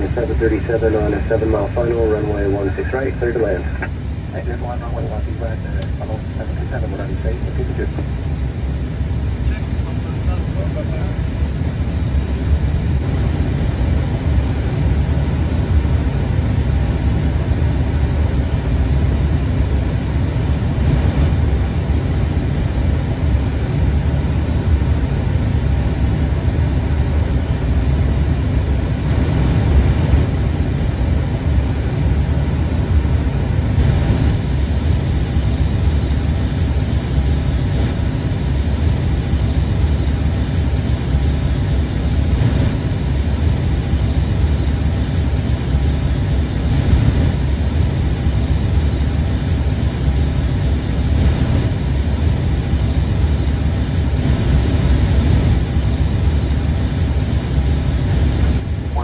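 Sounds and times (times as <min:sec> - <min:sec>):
airflow and engine rumble: 0:00.0 - 0:59.0.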